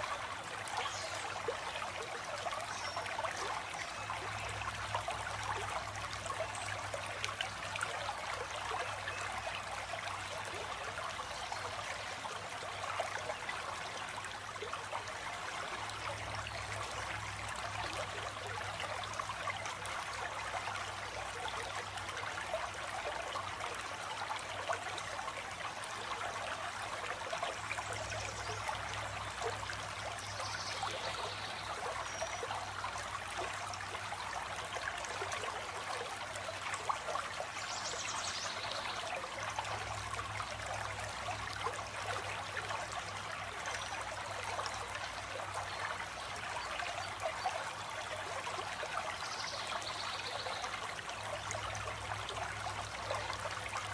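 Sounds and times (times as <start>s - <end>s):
water rushing and trickling: 0.0s - 53.9s.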